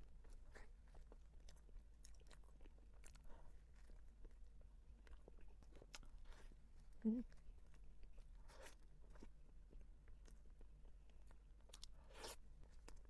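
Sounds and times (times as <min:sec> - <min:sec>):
soft squishy chewing: 0:00.0 - 0:13.0.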